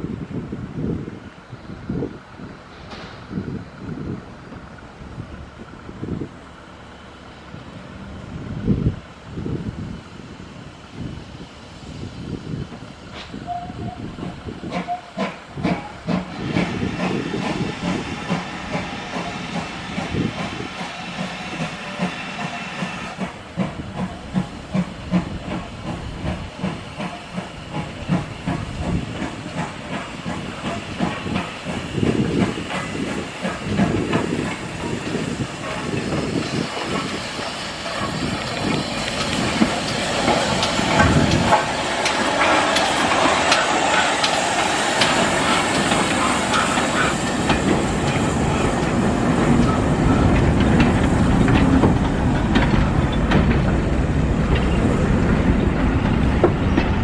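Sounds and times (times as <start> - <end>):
steam locomotive hissing rhythmically: 0.4 - 57.0.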